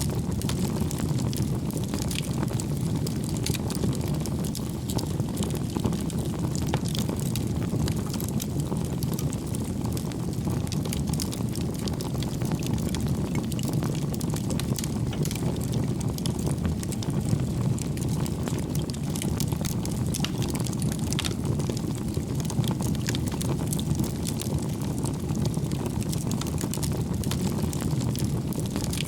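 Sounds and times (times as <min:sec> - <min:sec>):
fire crackling and popping: 0:00.0 - 0:29.0
wood fire rumbling: 0:00.0 - 0:29.0.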